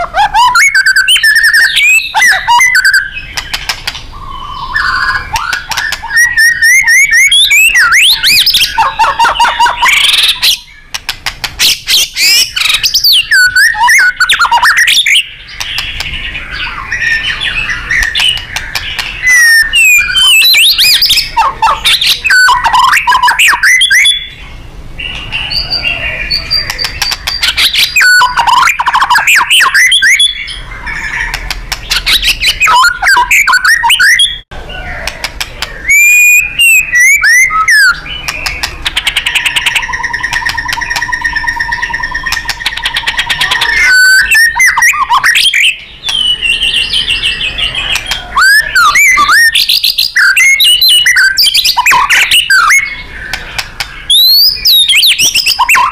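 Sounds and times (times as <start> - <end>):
songbird singing varied song: 0.3 - 55.9.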